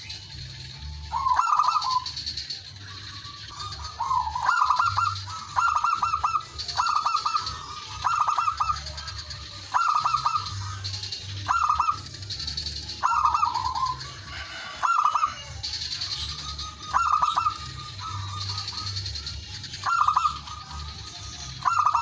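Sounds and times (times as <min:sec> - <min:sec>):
dove cooing: 0:00.8 - 0:22.0.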